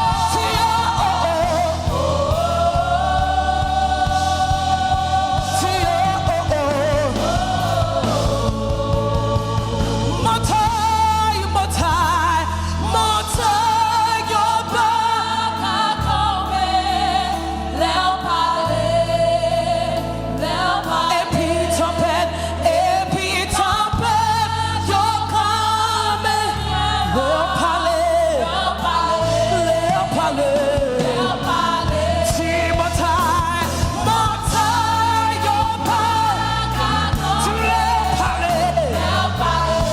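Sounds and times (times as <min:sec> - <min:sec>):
held bass line: 0:00.0 - 0:39.9
voices singing gospel melody: 0:00.0 - 0:39.9.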